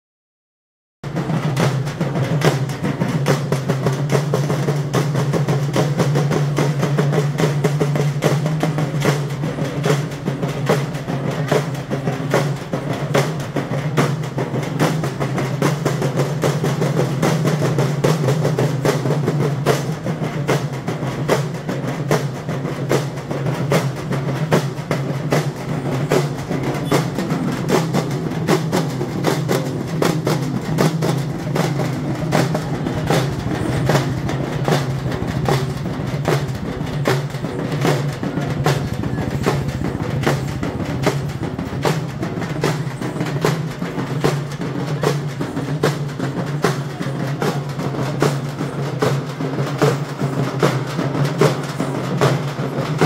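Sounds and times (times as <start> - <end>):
dhol drums beating: 1.0 - 53.0.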